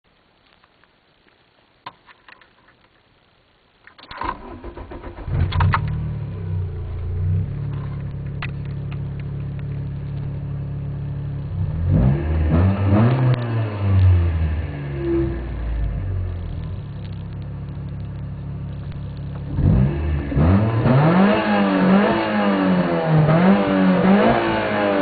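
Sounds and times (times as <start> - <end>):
car engine starting and idling: 4.0 - 25.0.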